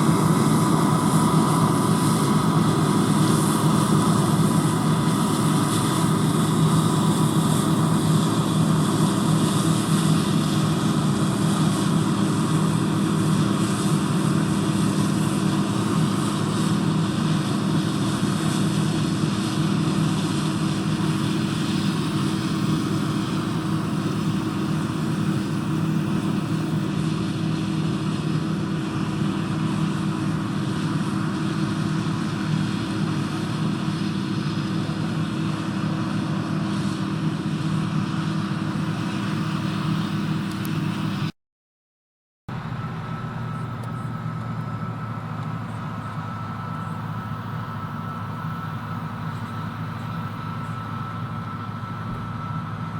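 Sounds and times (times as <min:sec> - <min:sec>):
combine harvester engine drone: 0:00.0 - 0:41.3, 0:42.5 - 0:52.9.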